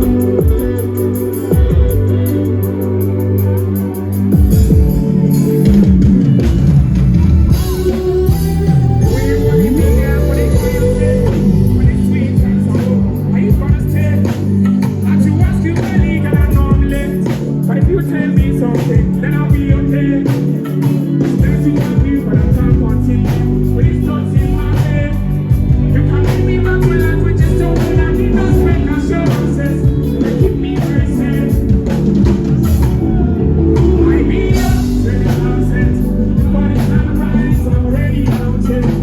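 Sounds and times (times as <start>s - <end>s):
live band music: 0.0s - 39.0s
person singing: 0.0s - 39.0s
drum kit hitting: 4.3s - 39.0s.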